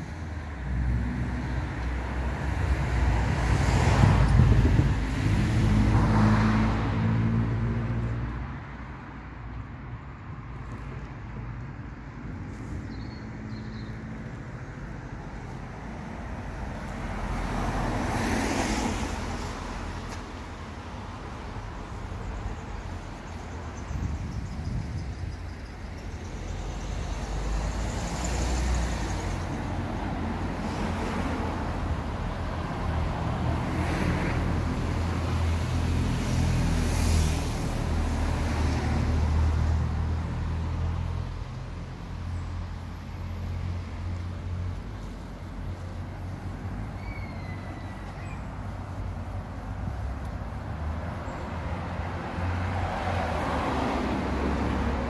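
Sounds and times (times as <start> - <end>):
cars passing: 0.0 - 55.0
low traffic rumble: 0.0 - 55.0.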